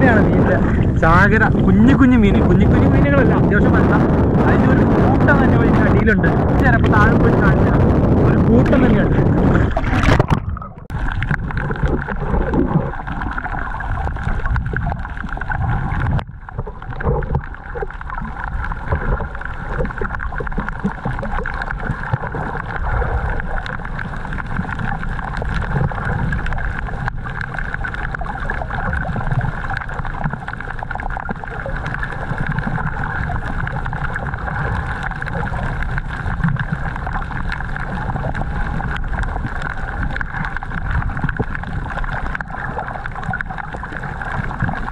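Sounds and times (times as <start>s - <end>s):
muffled rumble of moving water: 0.0s - 44.9s.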